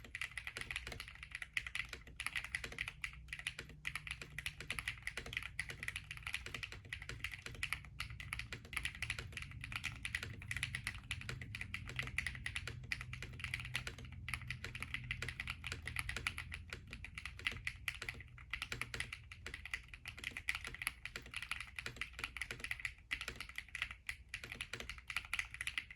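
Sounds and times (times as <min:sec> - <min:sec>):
fast typing on mechanical keyboard: 0:00.0 - 0:25.9.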